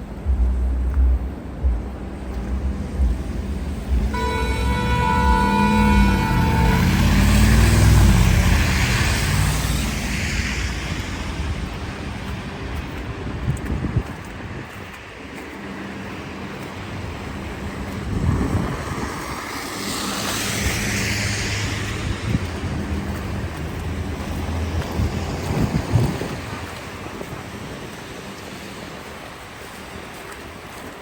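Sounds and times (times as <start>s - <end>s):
tyres hissing on wet road: 0.0s - 31.0s
vehicle engine rumble: 0.0s - 31.0s.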